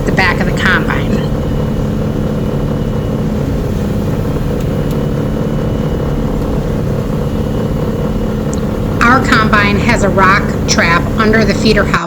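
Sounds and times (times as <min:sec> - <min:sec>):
combine harvester drone: 0:00.0 - 0:12.0
faint high whine: 0:00.0 - 0:12.0.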